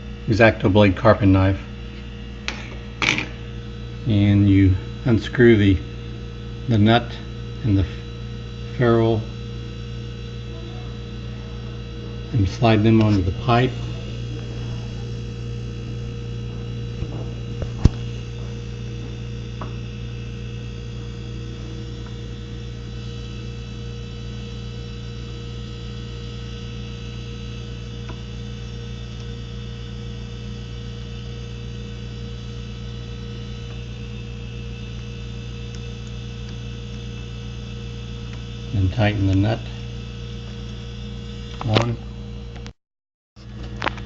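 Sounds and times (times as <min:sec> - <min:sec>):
low electrical hum: 0:00.0 - 0:42.8, 0:43.4 - 0:44.0.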